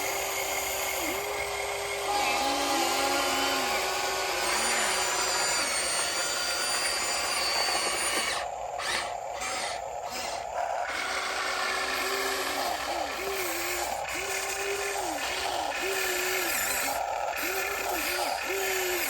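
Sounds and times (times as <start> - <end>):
electric motor and pump whining: 0.0 - 19.0.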